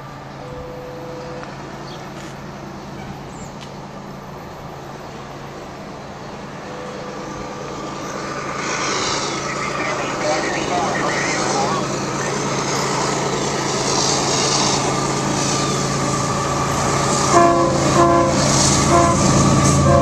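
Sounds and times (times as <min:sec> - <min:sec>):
train rumble and hum: 0:00.0 - 0:20.0.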